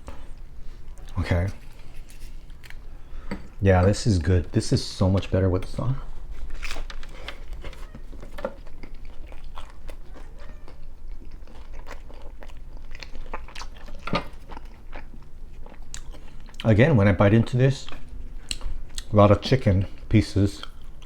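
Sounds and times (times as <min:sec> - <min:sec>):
chewing and biting pizza: 0:00.0 - 0:03.6, 0:06.0 - 0:21.0.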